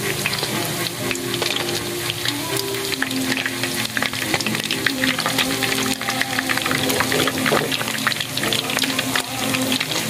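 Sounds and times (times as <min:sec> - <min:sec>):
deep-frying sizzle with pops: 0:00.0 - 0:10.0.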